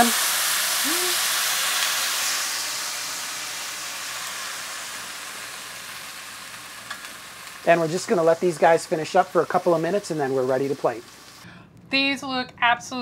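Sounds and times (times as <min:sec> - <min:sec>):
sauce sizzling in hot oil: 0:00.0 - 0:11.4.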